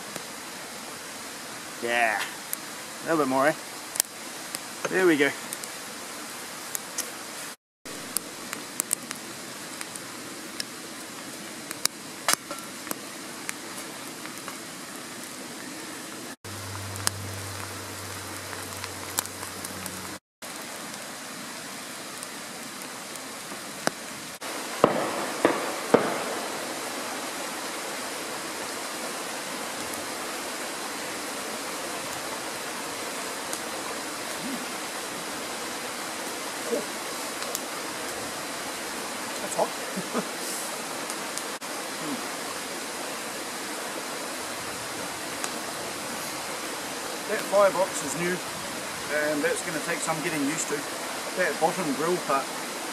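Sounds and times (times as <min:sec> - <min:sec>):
stream running: 0:00.0 - 0:52.9
wood fire crackling: 0:00.0 - 0:52.9.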